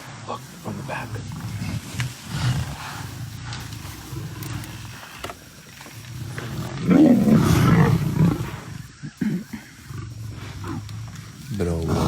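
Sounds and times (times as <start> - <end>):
lions snarling and growling: 0.0 - 12.0
lion roaring: 0.4 - 12.0.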